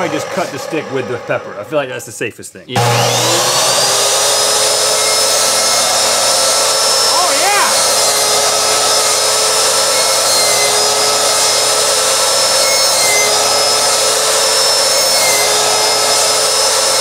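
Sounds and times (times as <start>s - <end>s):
miter saw whining: 0.0s - 2.0s, 2.8s - 17.0s.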